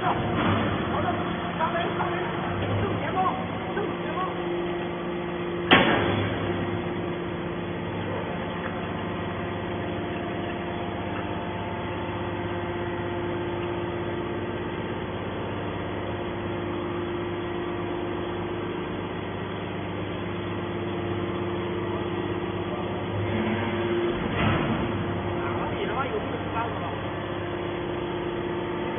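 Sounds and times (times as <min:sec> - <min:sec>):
hydraulic power unit whining: 0:00.0 - 0:28.9.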